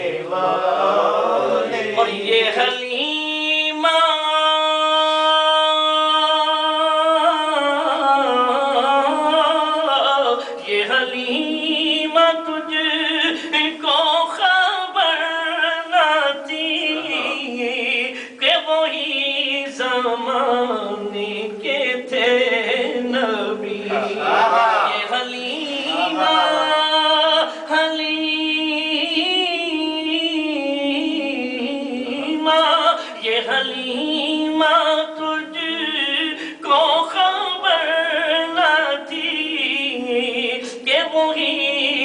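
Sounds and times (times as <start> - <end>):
man singing unaccompanied: 0.0 - 42.0.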